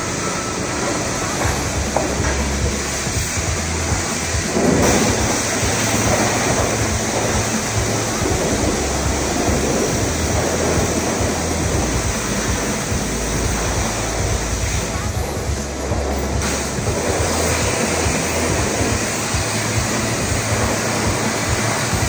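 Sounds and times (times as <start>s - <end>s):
low steady hum: 0.0s - 22.0s
pressure washer spraying water: 0.0s - 22.0s.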